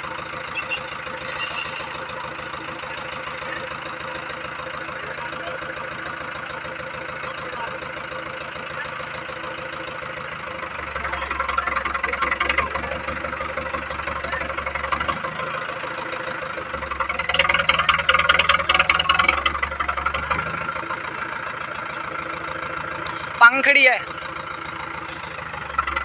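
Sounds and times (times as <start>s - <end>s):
diesel tractor engine revving: 0.0s - 26.0s.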